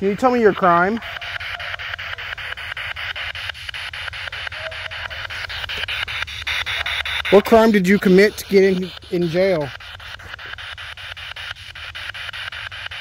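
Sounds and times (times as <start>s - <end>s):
choppy radio static: 0.0s - 13.0s
rapid clicks: 0.2s - 13.0s.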